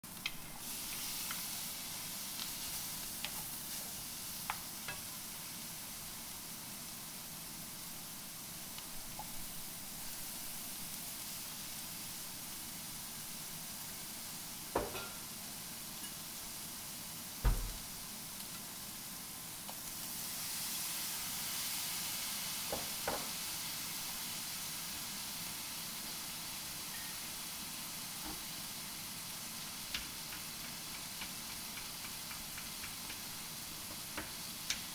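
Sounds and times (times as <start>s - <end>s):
food sizzling in hot oil: 0.0s - 34.9s.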